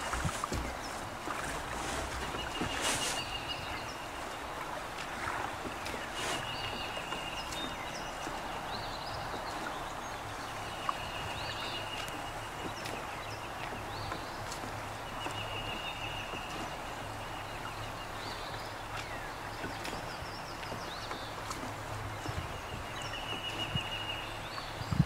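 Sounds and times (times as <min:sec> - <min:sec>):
water rushing: 0:00.0 - 0:25.0
wind: 0:00.0 - 0:25.0.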